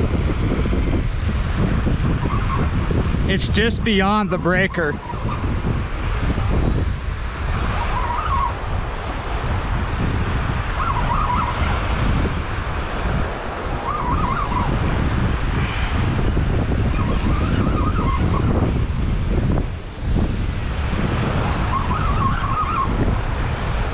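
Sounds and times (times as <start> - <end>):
breaking surf: 0.0 - 23.9
wind buffeting microphone: 0.0 - 23.9.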